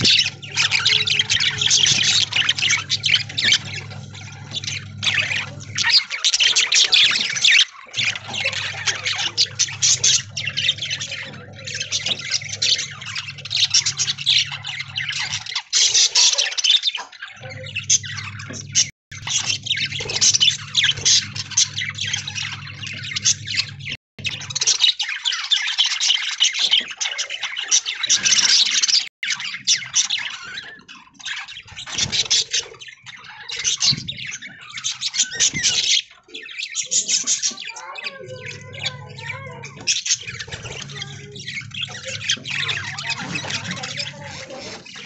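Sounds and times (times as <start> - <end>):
budgerigars chattering and chirping: 0.0 - 45.0.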